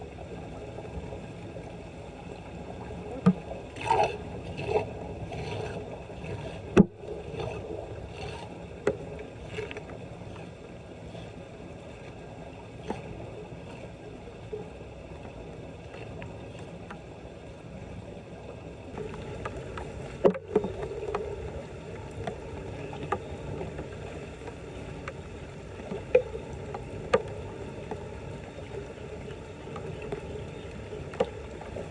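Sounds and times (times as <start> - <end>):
floodwater sloshing: 1.8 - 17.2, 18.9 - 31.9.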